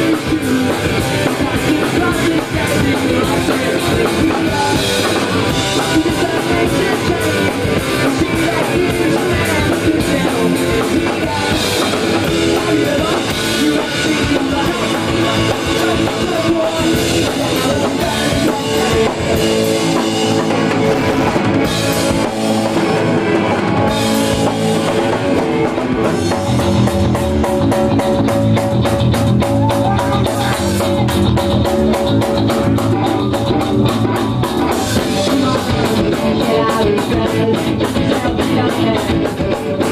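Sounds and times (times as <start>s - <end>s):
drums fast beat: 0.0s - 39.9s
live rock band playing: 0.0s - 39.9s.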